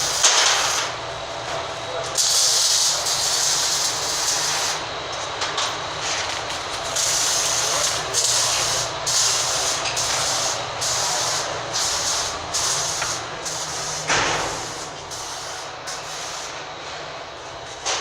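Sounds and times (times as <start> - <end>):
ventilation air rushing: 0.0 - 18.0.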